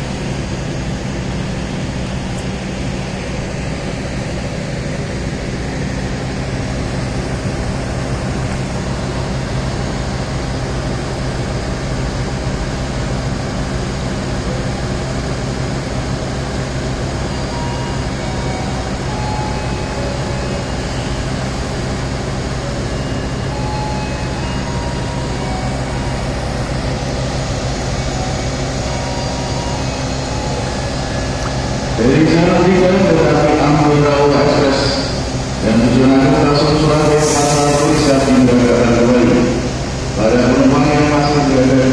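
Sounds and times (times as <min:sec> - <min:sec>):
idling diesel train drone: 0:00.0 - 0:41.9.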